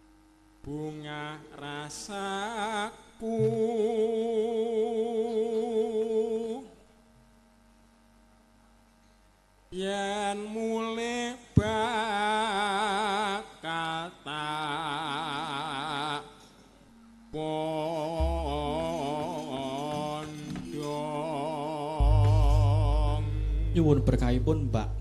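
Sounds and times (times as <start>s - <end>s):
man singing unaccompanied: 0.6s - 6.8s, 9.7s - 16.6s, 17.3s - 25.0s.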